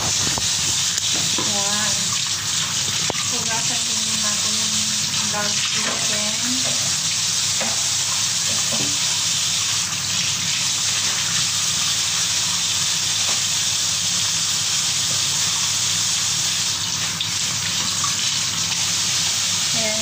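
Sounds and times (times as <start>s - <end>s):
faucet water running and splashing: 0.0s - 20.0s.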